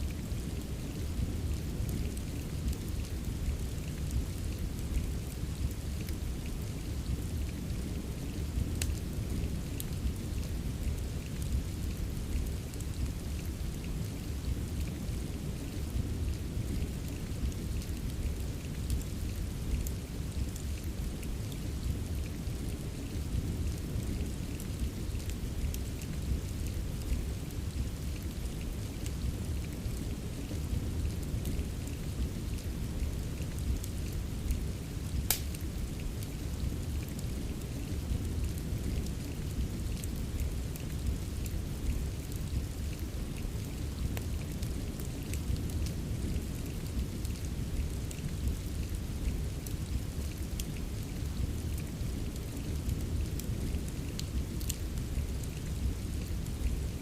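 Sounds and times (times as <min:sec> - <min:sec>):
steady rain rumble: 0:00.0 - 0:57.0
wood fire crackling: 0:00.0 - 0:57.0.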